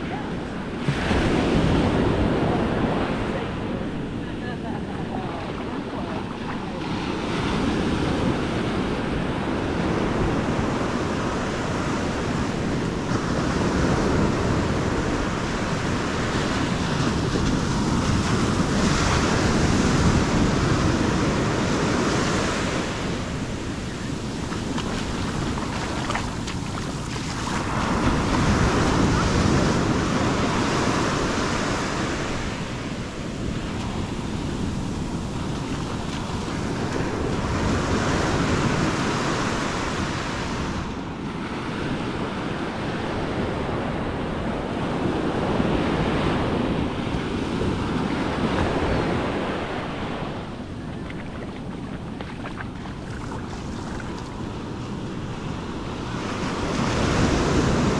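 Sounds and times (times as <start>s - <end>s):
ocean surf breaking on beach: 0.0s - 57.9s
wind buffeting microphone: 0.0s - 57.9s.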